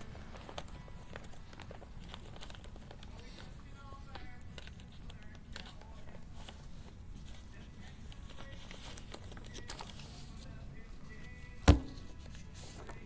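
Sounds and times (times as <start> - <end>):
paper rustling and shuffling: 0.0 - 13.0.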